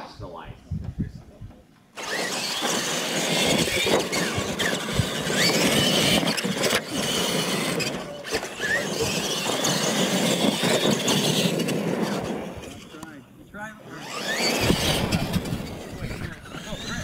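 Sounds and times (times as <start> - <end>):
toy truck motors whining: 1.9 - 17.0
tyres scrabbling on dirt: 2.0 - 13.0, 14.0 - 17.0.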